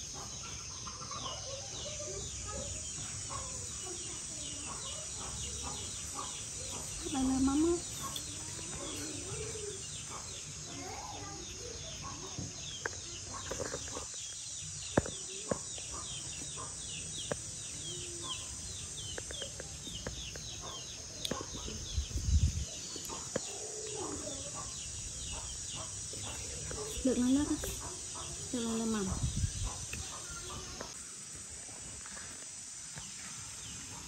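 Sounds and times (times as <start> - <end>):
chickens clucking: 0.0 - 14.2, 14.9 - 31.0
high insect hiss: 0.0 - 34.0.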